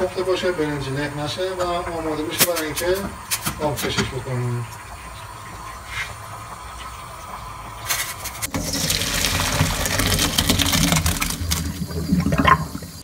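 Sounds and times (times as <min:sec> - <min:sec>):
water gushing through colander: 0:00.0 - 0:13.0.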